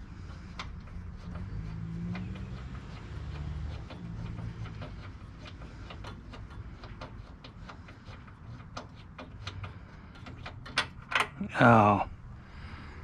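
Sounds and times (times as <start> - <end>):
ratchet clicking: 0.2 - 11.4.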